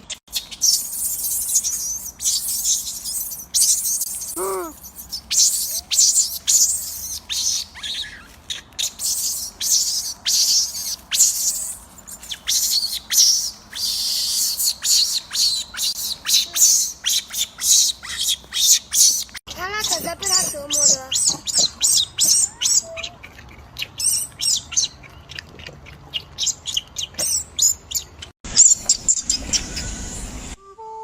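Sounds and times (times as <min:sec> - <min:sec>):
birds chirping high-pitched: 0:00.0 - 0:25.4.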